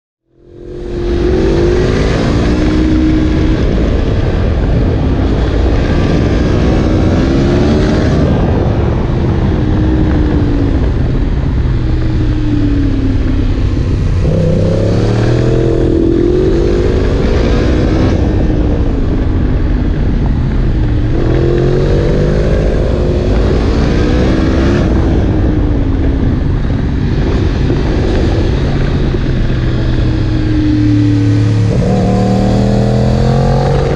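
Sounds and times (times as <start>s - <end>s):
motorcycle engine rising and falling: 0.3s - 33.9s.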